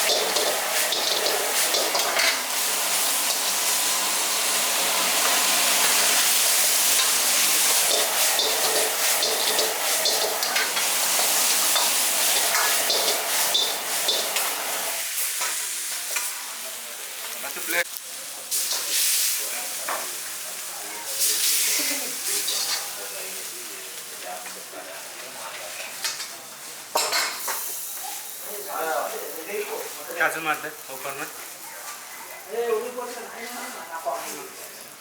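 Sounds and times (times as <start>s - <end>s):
food sizzling in wok: 0.0s - 35.0s.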